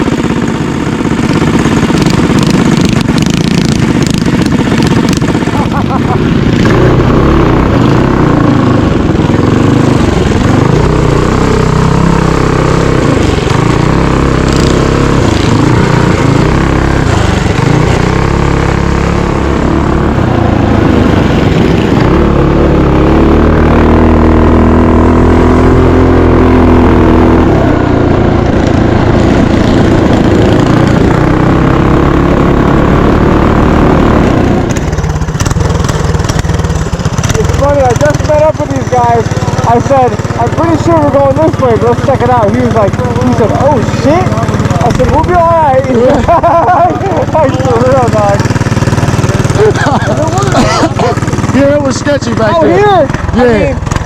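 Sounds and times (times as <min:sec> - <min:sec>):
mini bike engine revving: 0:00.0 - 0:54.0.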